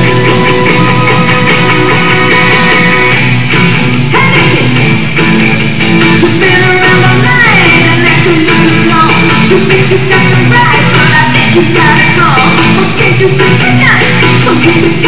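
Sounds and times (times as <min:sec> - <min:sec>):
person singing: 0:00.0 - 0:03.3, 0:04.1 - 0:04.8, 0:06.0 - 0:15.0
rock and roll music with guitar: 0:00.0 - 0:15.0.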